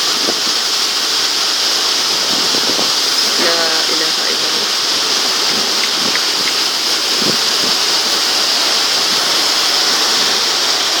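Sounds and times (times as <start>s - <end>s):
heavy rain pouring: 0.0s - 11.0s
wind: 0.0s - 11.0s.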